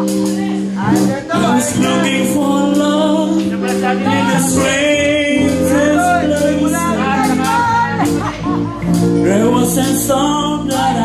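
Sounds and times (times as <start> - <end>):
live rock band: 0.0 - 11.0
man singing: 0.3 - 11.0.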